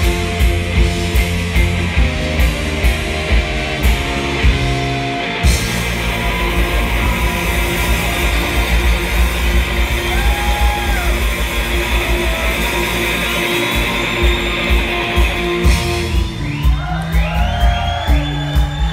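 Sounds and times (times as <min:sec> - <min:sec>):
bass guitar: 0:00.0 - 0:18.9
drum kit: 0:00.0 - 0:18.9
electric guitar: 0:00.0 - 0:18.9.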